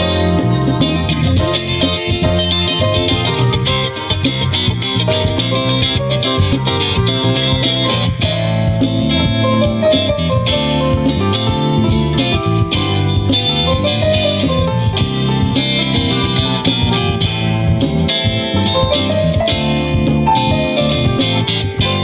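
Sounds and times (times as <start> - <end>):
bass: 0.0 - 22.0
drums with steady beat: 0.0 - 22.0
electric guitar: 0.0 - 22.0.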